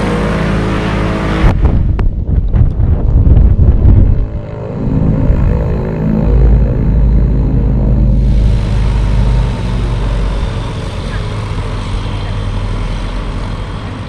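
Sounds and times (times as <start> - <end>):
propeller engine droning: 0.0 - 14.0.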